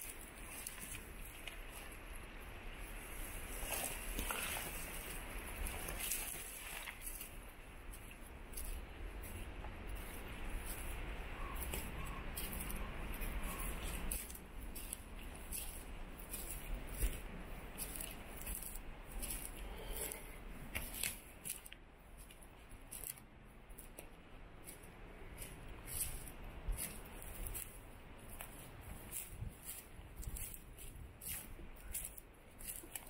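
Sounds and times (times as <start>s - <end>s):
footsteps crunching through undergrowth: 0.0s - 23.2s, 23.8s - 33.0s.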